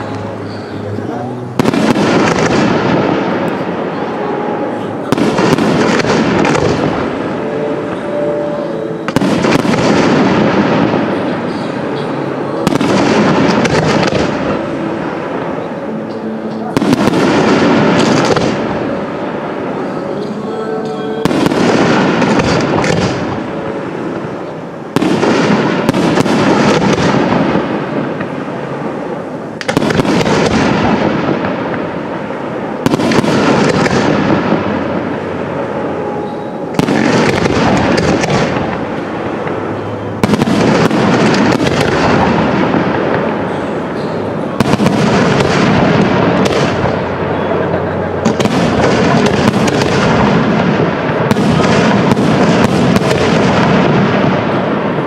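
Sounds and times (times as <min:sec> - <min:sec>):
firework crackle: 0:00.0 - 0:55.0.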